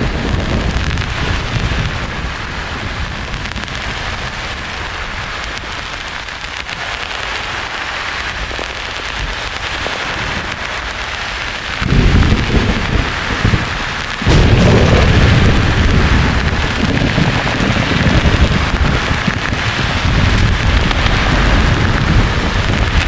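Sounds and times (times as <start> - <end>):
thunder rumbling: 0.0 - 23.0.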